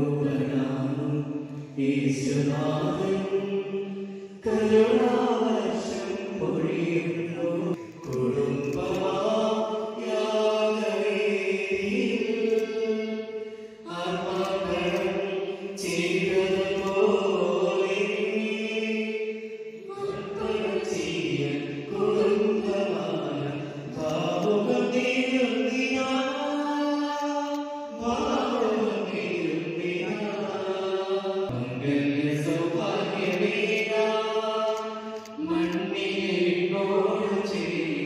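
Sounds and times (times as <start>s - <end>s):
person singing religious chant: 0.0s - 38.0s.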